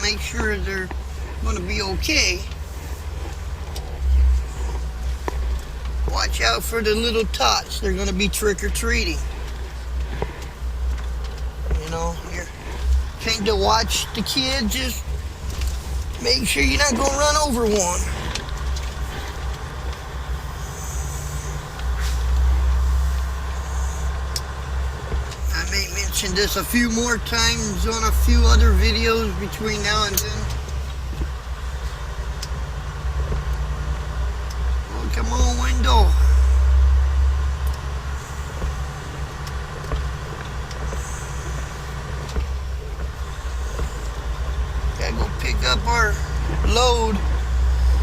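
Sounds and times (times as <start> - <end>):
diesel engine rumble: 0.0 - 48.0
road hiss: 0.0 - 48.0.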